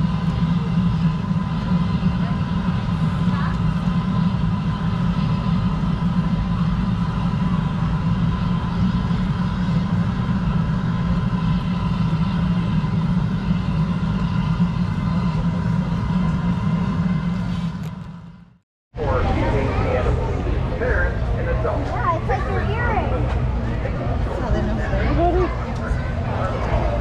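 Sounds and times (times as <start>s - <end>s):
low machinery hum: 0.0s - 27.0s.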